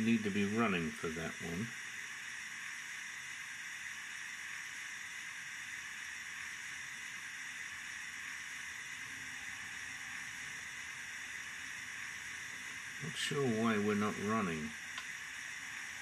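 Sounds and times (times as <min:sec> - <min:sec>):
steam hiss from speaker: 0:00.0 - 0:16.0.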